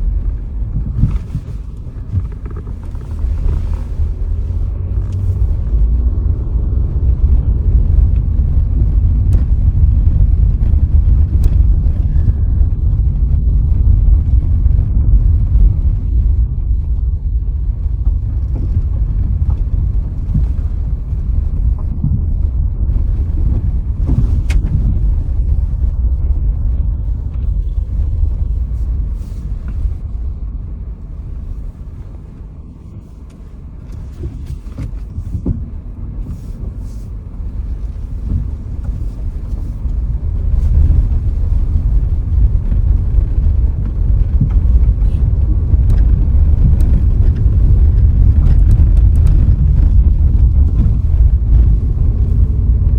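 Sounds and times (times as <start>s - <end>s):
vehicle road and wind rumble: 0.0s - 52.9s.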